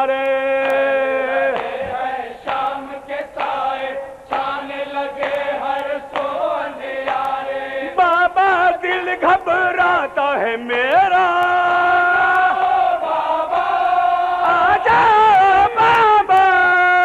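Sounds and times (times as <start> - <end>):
men chanting in chorus: 0.0 - 17.0.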